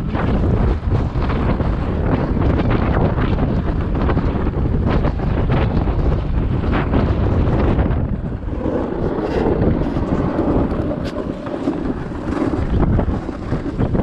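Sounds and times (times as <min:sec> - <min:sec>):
sled gliding over snow: 0:00.0 - 0:14.0
wind buffeting microphone: 0:00.0 - 0:14.0.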